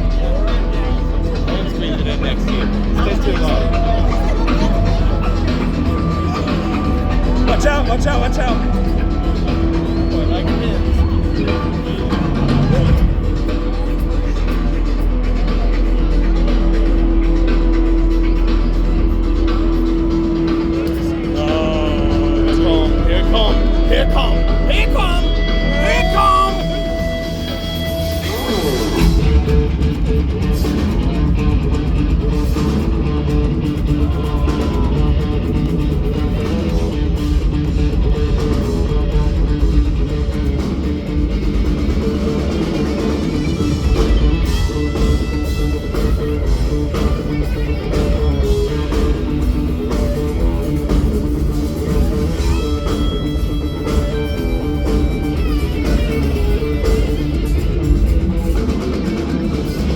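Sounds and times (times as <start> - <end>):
bass guitar: 0.0 - 59.9
electric guitars: 0.0 - 59.9.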